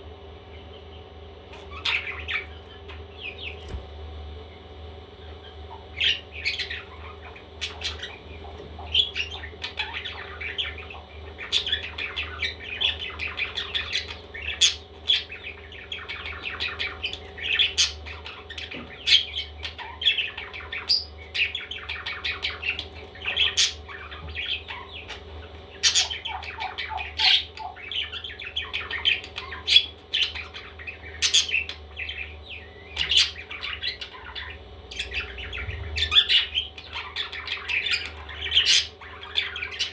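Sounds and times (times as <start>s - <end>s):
steady low hum: 0.0s - 39.9s
baby parrots chirping and squawking: 1.5s - 3.8s, 5.2s - 39.9s.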